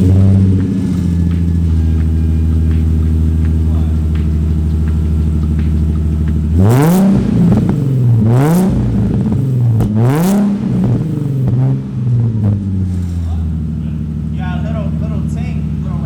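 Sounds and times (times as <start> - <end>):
car engine idling: 0.0 - 16.0
car engine revving: 0.0 - 16.0.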